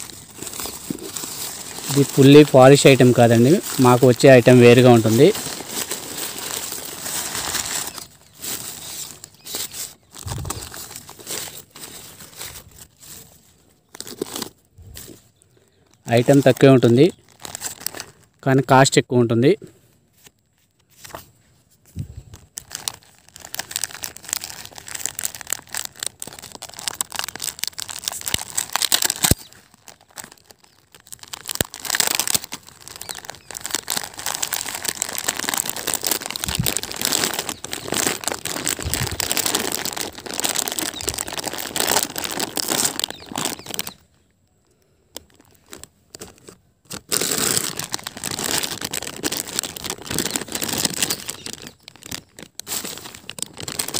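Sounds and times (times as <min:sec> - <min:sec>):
plastic bags crinkling: 0:00.0 - 0:18.9, 0:21.9 - 0:44.1, 0:44.7 - 0:53.9.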